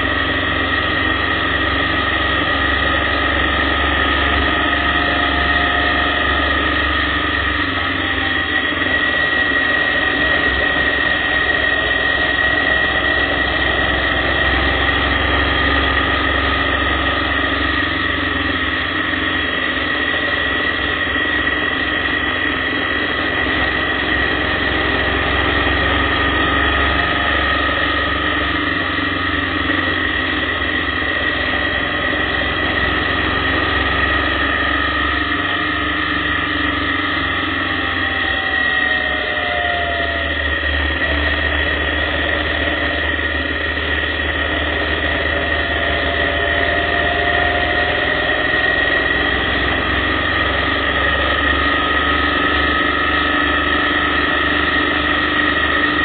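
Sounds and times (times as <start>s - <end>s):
constant high whine: 0.0s - 56.0s
motorcycle engine drone: 0.0s - 56.0s
road noise: 0.0s - 56.0s.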